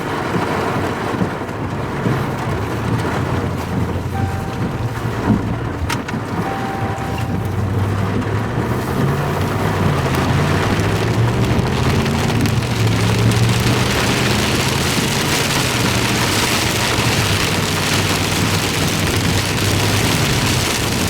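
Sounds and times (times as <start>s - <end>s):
heavy rain on a vehicle: 0.0s - 21.0s
car engine running: 0.1s - 21.0s.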